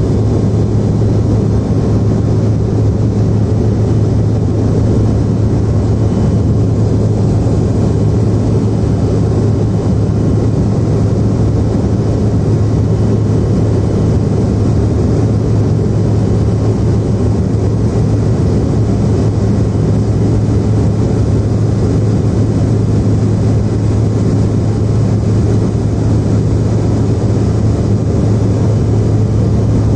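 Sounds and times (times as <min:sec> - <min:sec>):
airflow rush: 0:00.0 - 0:29.9
jet engine drone in cabin: 0:00.0 - 0:29.9.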